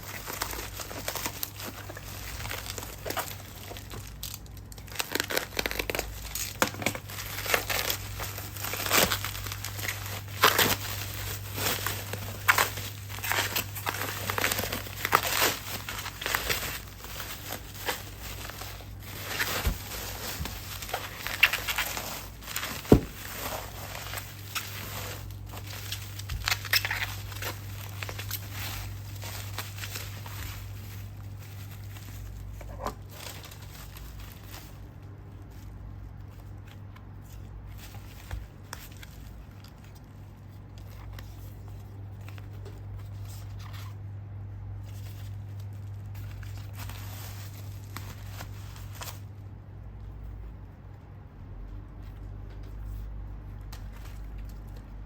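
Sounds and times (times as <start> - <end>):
packaging crinkling: 0.0 - 44.1, 44.8 - 49.4.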